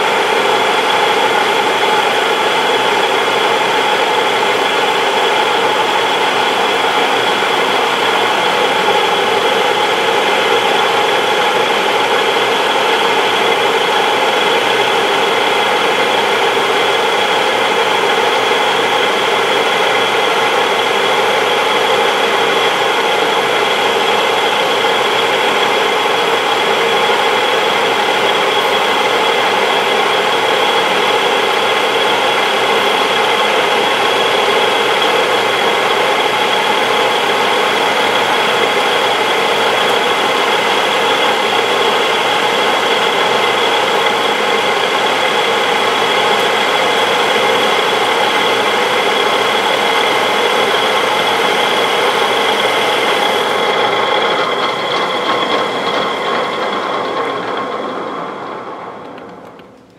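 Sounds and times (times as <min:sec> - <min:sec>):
lathe hum and gear whine: 0:00.0 - 0:59.5.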